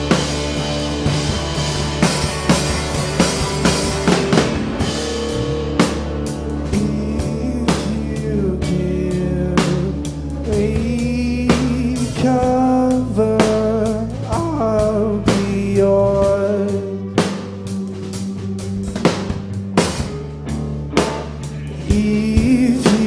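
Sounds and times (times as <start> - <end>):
drum kit beat: 0.0 - 23.0
live rock band playing: 0.0 - 23.0.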